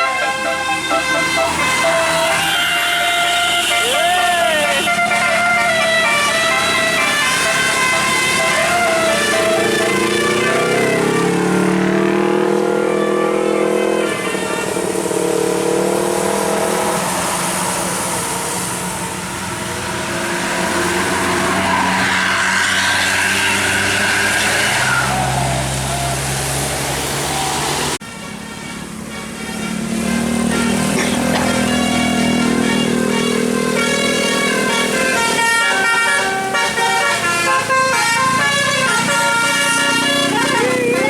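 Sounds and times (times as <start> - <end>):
musical bus horn tune: 0.0 - 17.4, 18.2 - 27.3, 27.9 - 41.0
bus engine running: 0.0 - 41.0.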